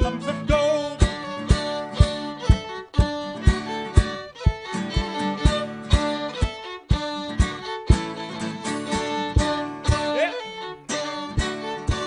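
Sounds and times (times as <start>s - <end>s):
acoustic guitar: 0.0s - 12.0s
fiddle: 0.0s - 12.0s
steady beat: 0.5s - 12.0s.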